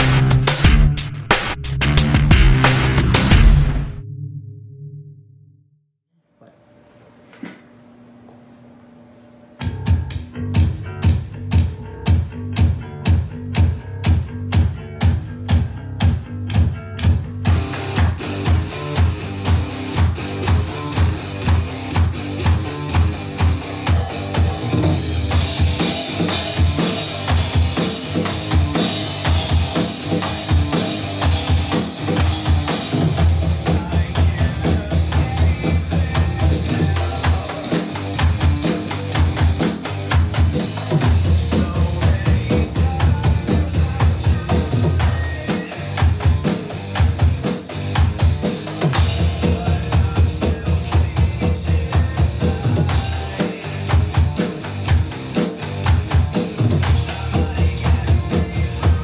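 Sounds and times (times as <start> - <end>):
electronic drum kit playing: 0.0 - 4.0, 9.6 - 59.0
rock backing track: 0.0 - 4.0, 9.6 - 59.0.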